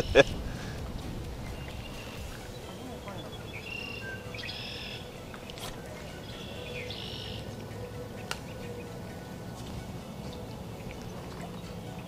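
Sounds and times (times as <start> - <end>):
high bird call: 0.0 - 12.0
wind rumble: 0.0 - 12.0.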